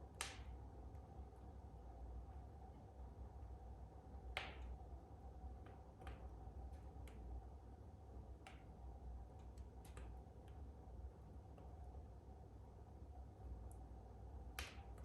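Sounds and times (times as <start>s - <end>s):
wood fire crackling: 0.0s - 11.8s, 13.5s - 15.0s
faint low hum: 0.0s - 15.0s.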